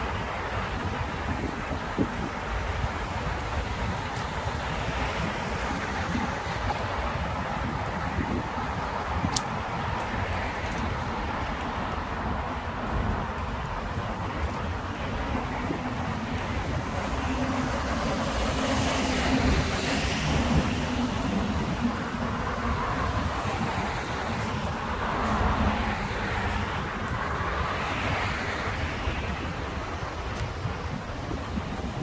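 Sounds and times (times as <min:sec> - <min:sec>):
street traffic passing: 0:00.0 - 0:32.0
wind on microphone: 0:00.0 - 0:32.0.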